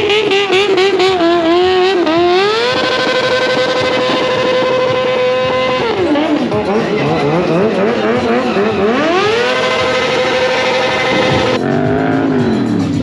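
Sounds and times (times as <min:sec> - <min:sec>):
motorcycle engine revving: 0:00.0 - 0:13.0
tire burnout: 0:00.0 - 0:13.0.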